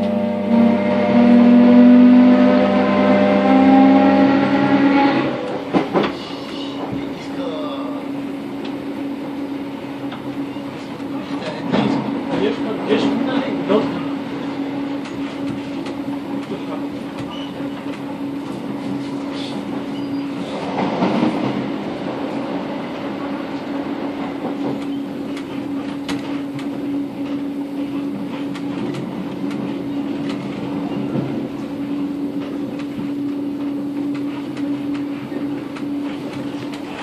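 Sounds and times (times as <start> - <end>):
train interior hum: 0.0 - 37.0
wheel and rail rushing noise: 0.0 - 37.0.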